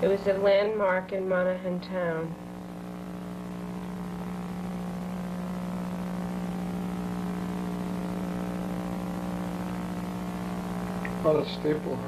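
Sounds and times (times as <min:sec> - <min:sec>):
faint hiss: 0:00.0 - 0:12.0
low electrical hum: 0:00.0 - 0:12.0.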